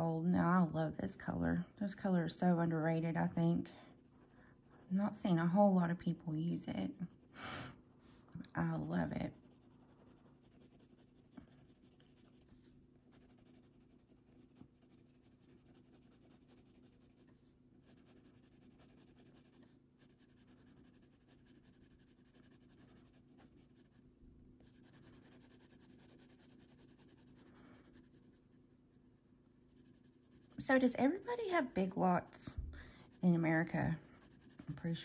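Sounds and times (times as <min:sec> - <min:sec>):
pencil scratching on paper: 0:01.4 - 0:07.3, 0:08.0 - 0:24.0, 0:24.6 - 0:35.0.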